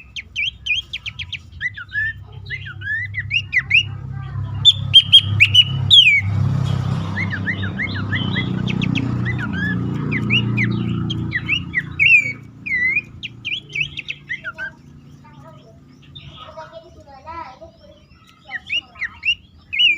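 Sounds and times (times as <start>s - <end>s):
bird whistled calls: 0.0s - 4.0s, 4.6s - 6.4s, 7.0s - 16.6s, 17.7s - 19.9s
steady low hum: 0.0s - 18.2s.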